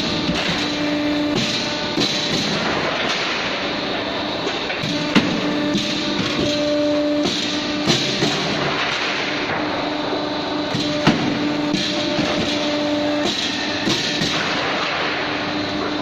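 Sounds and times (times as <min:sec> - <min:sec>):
roll-forming machine running: 0:00.0 - 0:16.0.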